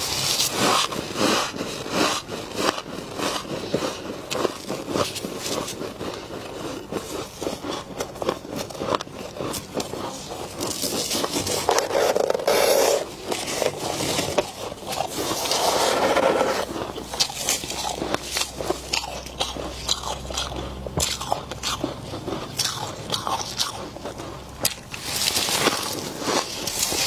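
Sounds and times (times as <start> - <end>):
freezer frost being scraped: 0.0 - 27.0.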